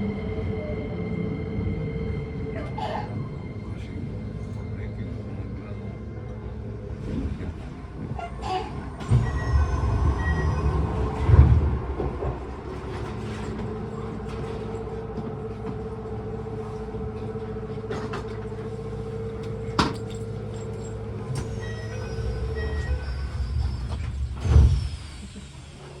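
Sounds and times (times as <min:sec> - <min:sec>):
train whine: 0:00.0 - 0:26.0
train wheels rumbling on rail: 0:01.4 - 0:26.0.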